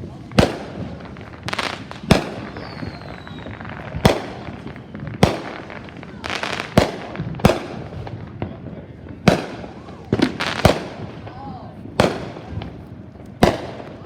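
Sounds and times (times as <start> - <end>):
fireworks bangs echoing: 0.0 - 14.0
fireworks crackling: 0.0 - 14.0.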